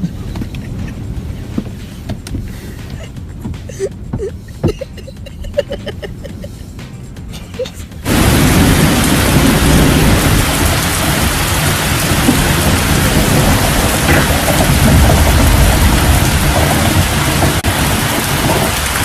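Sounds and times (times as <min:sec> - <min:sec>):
low rumble: 0:00.0 - 0:18.9
heavy rain: 0:00.0 - 0:19.0.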